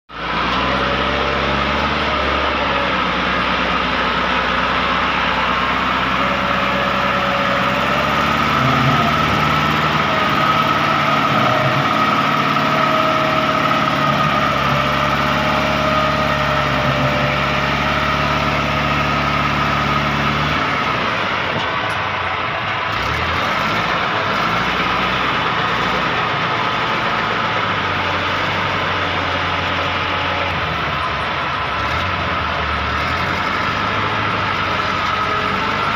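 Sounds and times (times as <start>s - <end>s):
tractor diesel engine straining: 0.1s - 35.9s.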